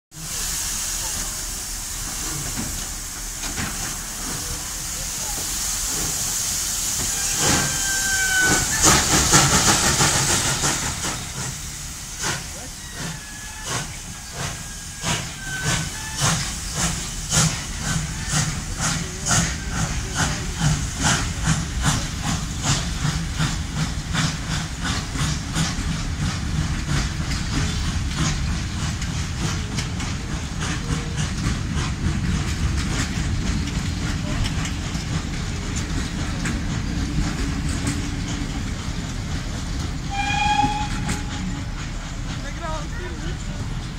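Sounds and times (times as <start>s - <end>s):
hiss of escaping steam: 0.1s - 43.9s
low rumble of rolling coaches: 0.2s - 43.9s
steam locomotive exhaust chuffs: 0.2s - 43.9s.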